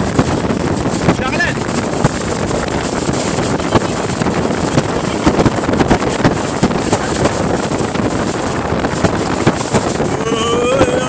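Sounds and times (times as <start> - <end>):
boat hull knocking on waves: 0.0 - 11.0
water spraying beside boat: 0.0 - 11.0
wind rushing over microphone: 0.0 - 11.0.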